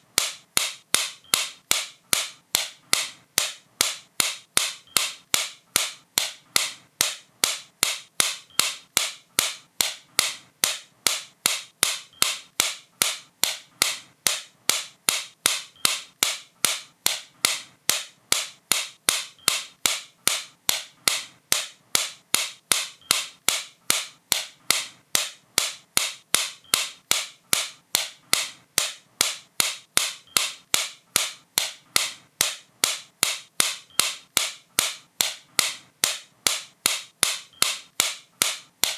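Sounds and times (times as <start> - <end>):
sharp bright clicks: 0.1 - 38.9.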